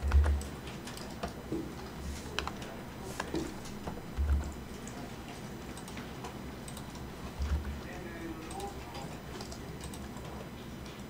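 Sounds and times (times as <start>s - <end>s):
keyboard and mouse clicks: 0.0s - 11.0s.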